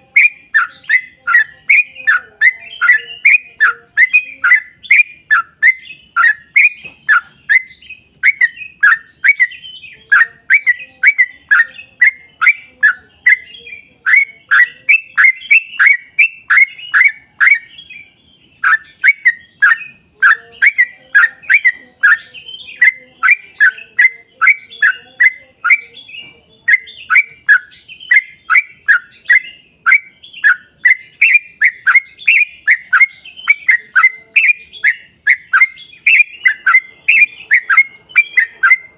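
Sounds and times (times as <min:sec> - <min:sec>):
bird singing fast notes: 0:00.0 - 0:38.9.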